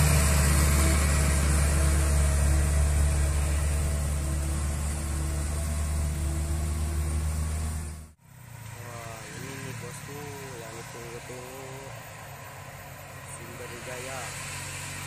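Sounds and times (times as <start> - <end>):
diesel engines droning uphill: 0.0 - 15.0.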